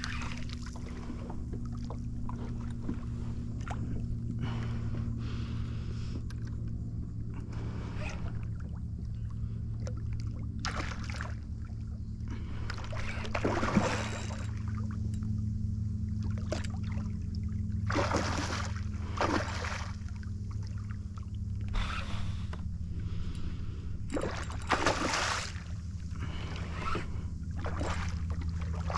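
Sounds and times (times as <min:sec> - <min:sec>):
water splashing against a kayak: 0:00.0 - 0:06.7, 0:07.6 - 0:15.0, 0:16.0 - 0:22.7, 0:24.1 - 0:28.9
steady low hum: 0:00.0 - 0:28.9.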